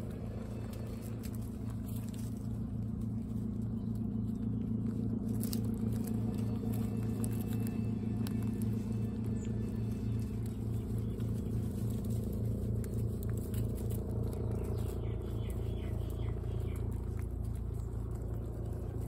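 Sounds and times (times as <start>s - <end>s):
guinea pigs chewing pellets: 0.0s - 19.0s
low mechanical hum: 0.0s - 19.0s.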